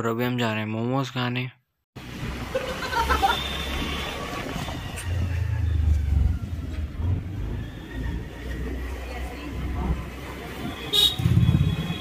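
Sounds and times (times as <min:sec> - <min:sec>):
road noise: 0:02.0 - 0:12.0.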